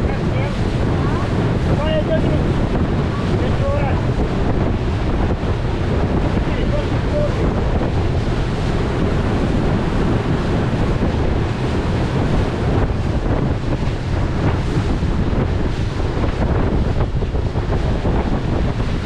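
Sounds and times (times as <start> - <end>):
rushing water: 0.0 - 19.0
wind buffeting microphone: 0.0 - 19.0.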